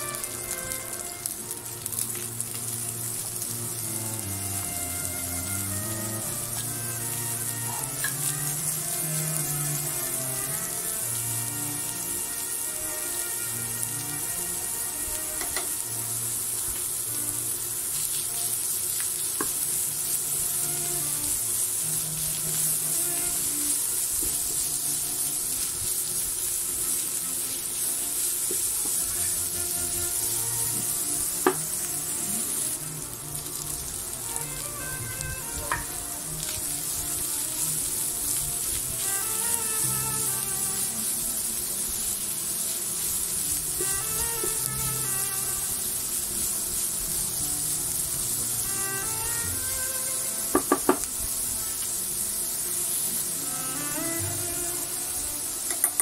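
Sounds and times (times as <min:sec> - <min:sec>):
background music: 0:00.0 - 0:56.0
food sizzling in a frying pan: 0:00.0 - 0:56.0.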